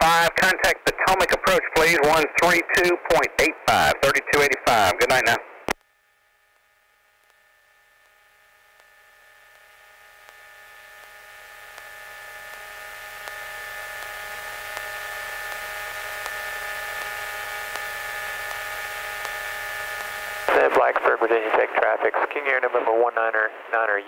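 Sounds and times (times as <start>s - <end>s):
radio electrical hum and hiss: 0.0s - 24.0s
steady whining tones: 0.0s - 24.0s.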